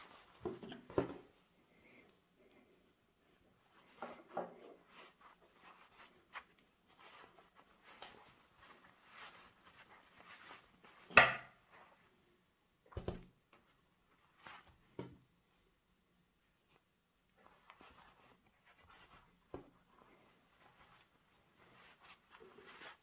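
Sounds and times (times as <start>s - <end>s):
rustling of sewing materials: 0.0s - 23.0s.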